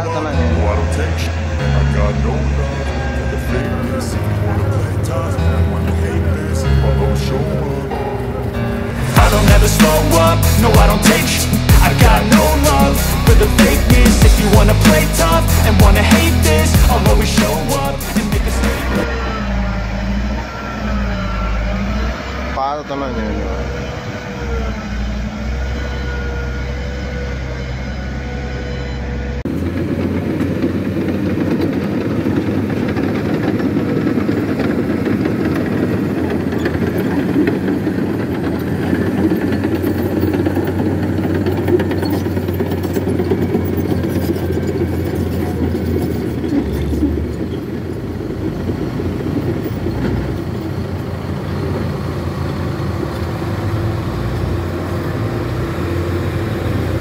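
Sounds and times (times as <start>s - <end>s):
heavy diesel engines under load: 0.0s - 57.0s.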